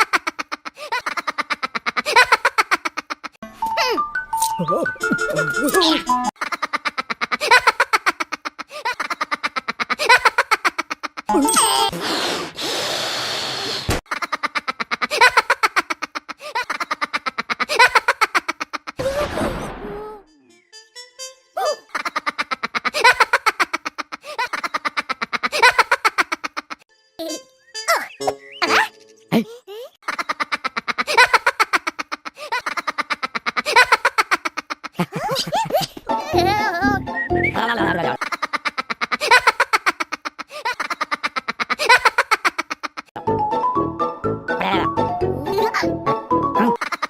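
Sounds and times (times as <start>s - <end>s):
cartoon character giggling: 0.0s - 4.0s, 4.6s - 12.0s, 14.1s - 20.2s, 21.6s - 37.0s, 37.6s - 43.2s, 46.6s - 47.0s.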